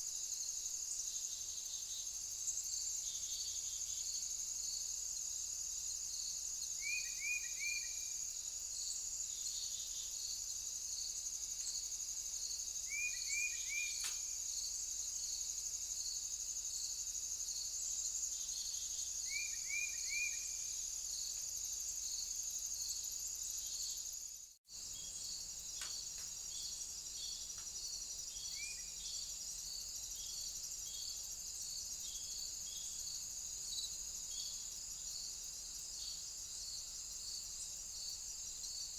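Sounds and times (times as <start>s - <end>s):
crickets trilling: 0.0s - 38.9s
insect chirps: 0.0s - 38.9s.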